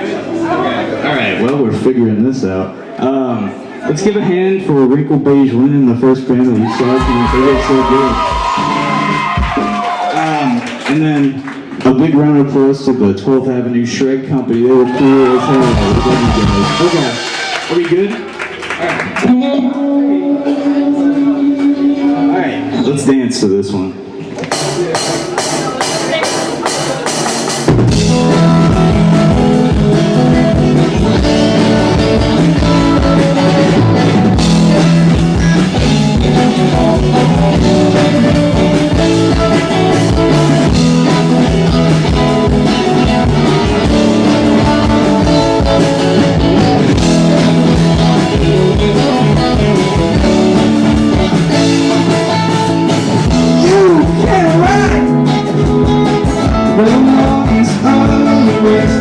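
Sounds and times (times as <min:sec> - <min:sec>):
live rock band playing: 0:04.6 - 0:14.0, 0:14.7 - 0:59.0.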